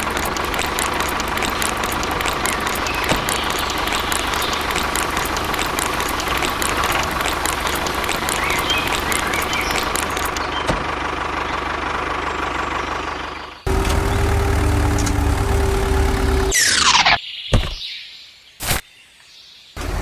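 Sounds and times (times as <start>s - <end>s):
engine-like running noise: 0.0s - 16.7s, 19.8s - 20.0s.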